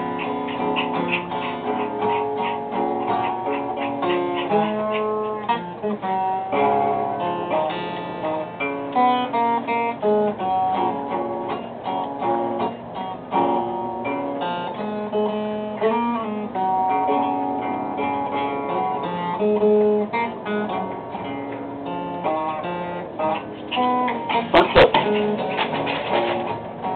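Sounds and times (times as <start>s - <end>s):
acoustic guitar music: 0.0s - 26.9s.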